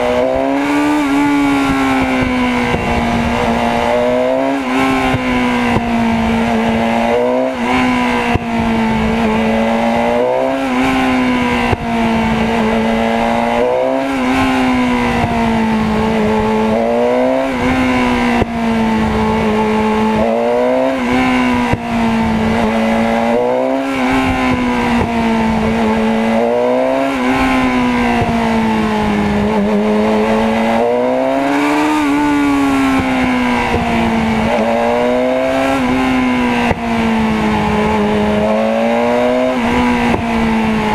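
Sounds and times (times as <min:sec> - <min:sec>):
motorcycle engine: 0:00.0 - 0:40.9
road noise: 0:00.0 - 0:40.9.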